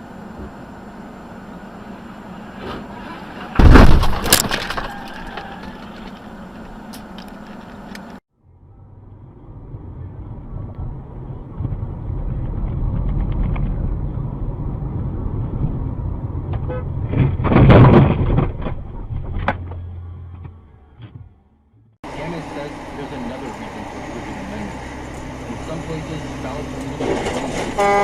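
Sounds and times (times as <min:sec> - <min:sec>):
car engine: 0:00.0 - 0:28.0
road noise: 0:00.0 - 0:28.0.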